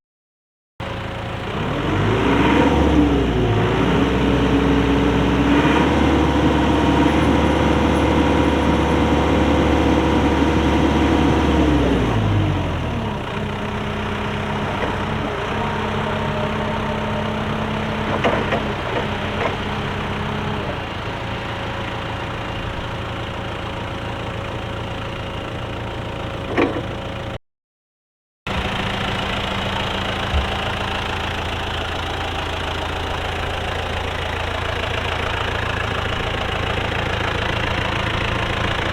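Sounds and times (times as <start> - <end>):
forklift diesel engine running: 0.8 - 27.4, 28.5 - 38.9.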